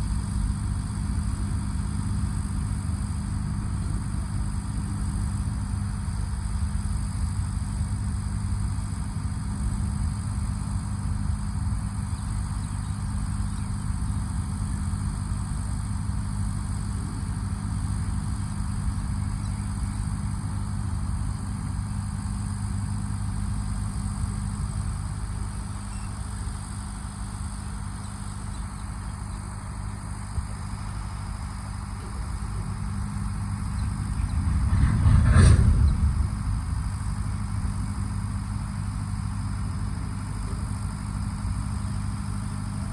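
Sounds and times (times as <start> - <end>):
truck engine droning: 0.0 - 42.9.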